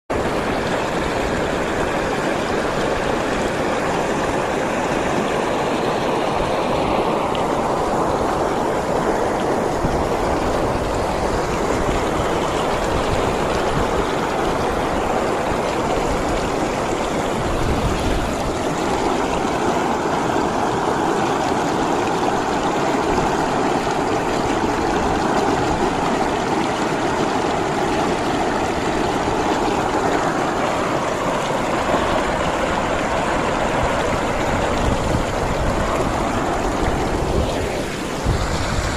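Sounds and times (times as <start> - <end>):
stream running over rocks: 0.1 - 38.9.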